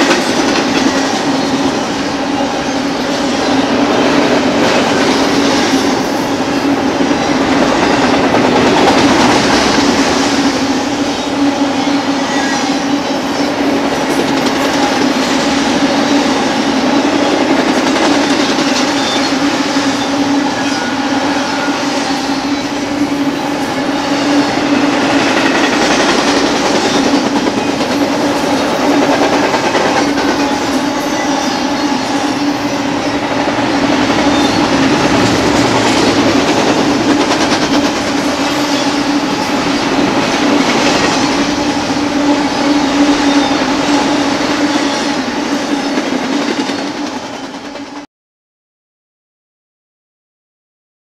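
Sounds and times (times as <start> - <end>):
freight train wheels rumbling: 0.0 - 48.0.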